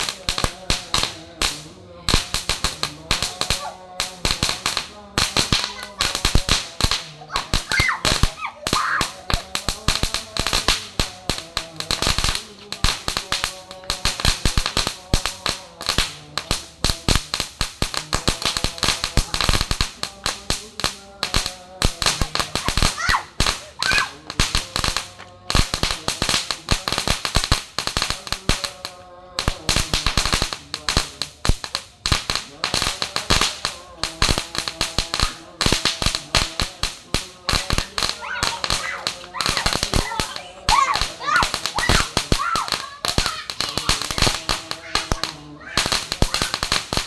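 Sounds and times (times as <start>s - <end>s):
firework bangs: 0.0s - 47.0s.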